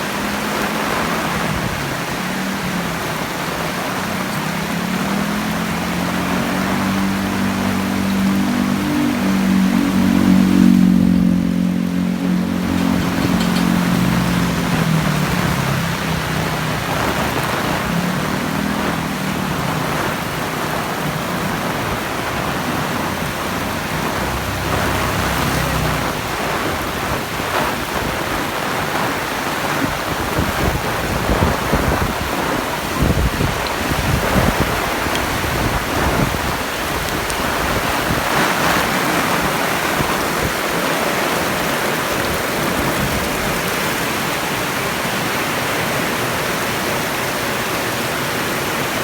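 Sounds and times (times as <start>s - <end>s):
heavy rain falling: 0.0s - 49.0s
vehicle engine drone: 0.0s - 49.0s.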